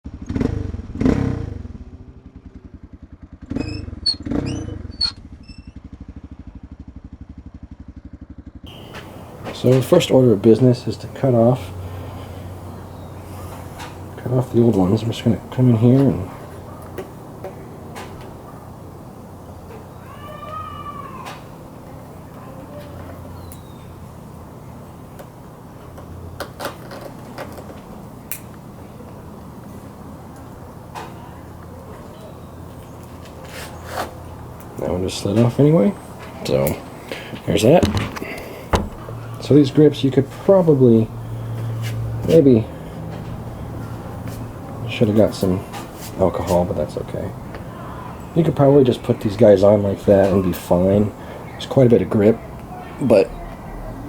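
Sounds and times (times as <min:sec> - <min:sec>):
motorcycle engine idling: 0:00.1 - 0:20.3, 0:21.0 - 0:54.0
steady low hum: 0:08.7 - 0:54.0.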